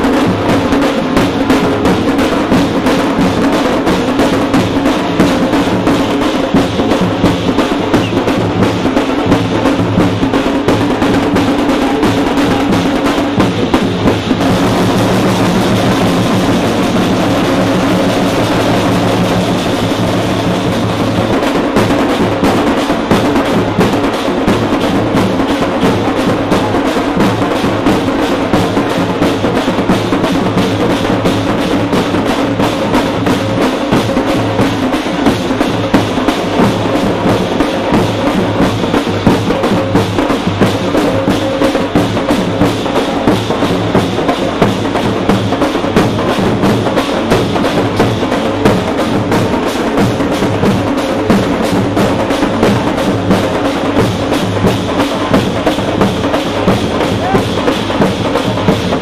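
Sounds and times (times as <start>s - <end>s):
procession drums beaten fast: 0.0s - 59.0s.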